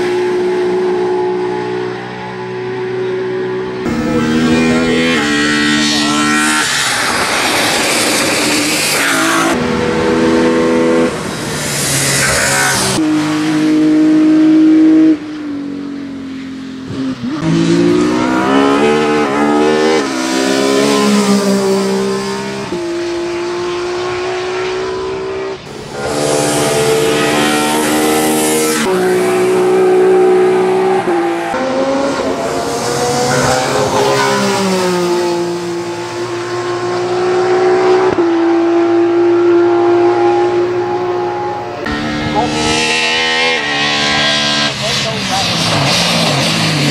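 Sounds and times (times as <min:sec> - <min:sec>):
race car engine revving hard: 0:02.6 - 0:15.4, 0:16.9 - 0:46.9.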